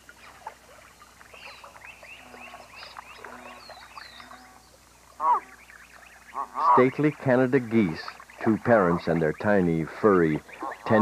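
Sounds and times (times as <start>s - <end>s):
small birds chirping and twittering: 0.0s - 11.0s.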